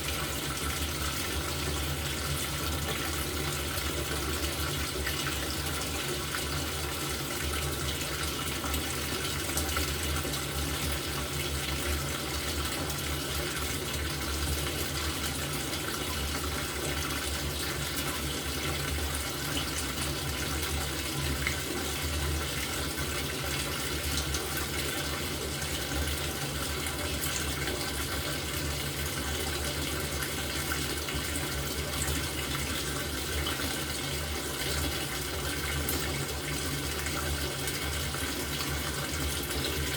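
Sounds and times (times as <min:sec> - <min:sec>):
washing machine low hum: 0:00.0 - 0:39.9
water rushing into washing machine: 0:00.0 - 0:39.9.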